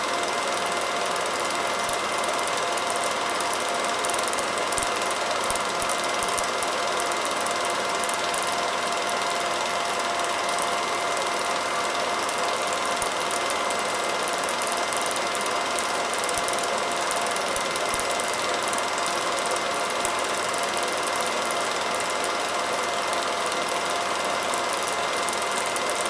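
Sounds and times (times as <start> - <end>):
film projector whirring: 0.0 - 26.0
fine rapid clatter: 0.1 - 26.0.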